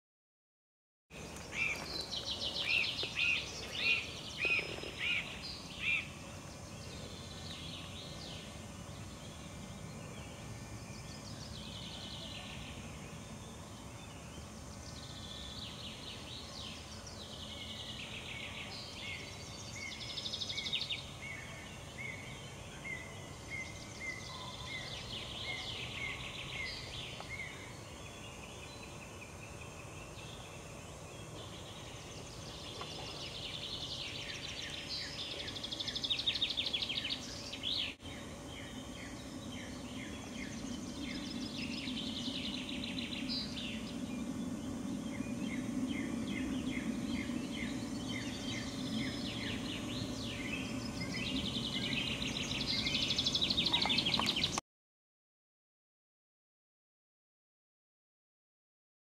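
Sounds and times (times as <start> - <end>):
low outdoor background noise: 1.1 - 54.6
songbirds singing: 1.1 - 54.6.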